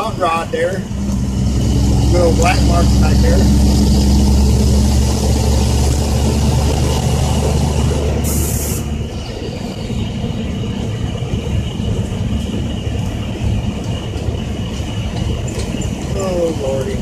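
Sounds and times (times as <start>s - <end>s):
diesel truck engine under load: 0.0s - 17.0s
road rumble: 0.0s - 17.0s
truck rattling: 0.0s - 17.0s.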